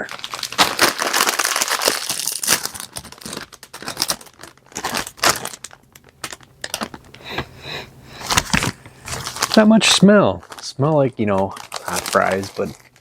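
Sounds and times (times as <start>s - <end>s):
plastic chip bag crinkling: 0.0s - 7.2s, 8.3s - 13.0s.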